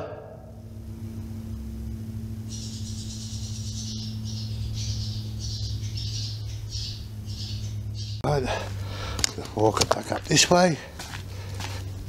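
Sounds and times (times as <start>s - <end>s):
low hum: 0.0s - 12.0s
birds calling harshly: 2.3s - 12.0s.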